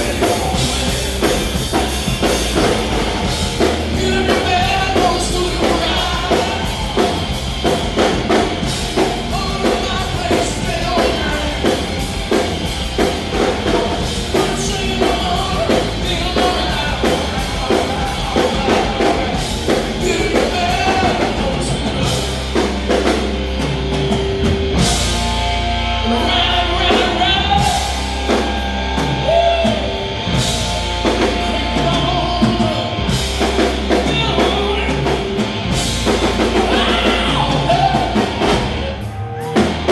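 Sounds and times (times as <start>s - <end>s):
person singing: 0.0s - 23.1s, 25.8s - 35.5s, 36.1s - 39.6s
drums: 0.0s - 39.9s
rock band playing live: 0.0s - 39.9s.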